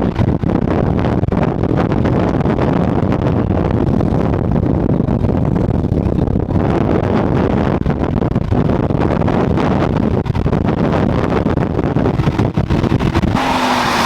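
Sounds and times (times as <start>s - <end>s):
car engine and road noise: 0.0s - 14.0s
wind buffeting microphone: 0.0s - 14.0s.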